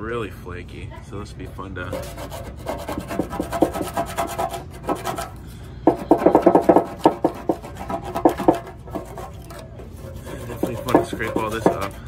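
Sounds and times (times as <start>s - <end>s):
plastic scraper scraping paint off metal: 1.9s - 12.0s.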